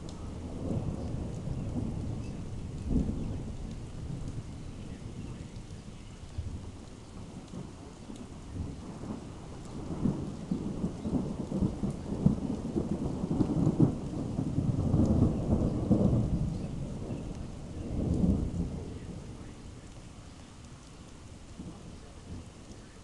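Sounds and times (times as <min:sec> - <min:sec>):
rolling thunder: 0:00.0 - 0:23.0.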